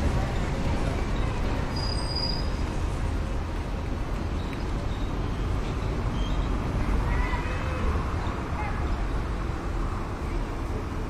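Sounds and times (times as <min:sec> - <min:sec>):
low street rumble and hiss: 0:00.0 - 0:11.0.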